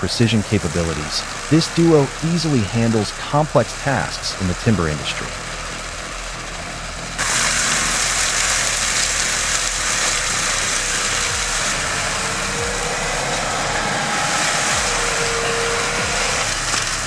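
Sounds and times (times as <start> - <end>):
heavy machinery rushing noise: 0.0 - 17.0.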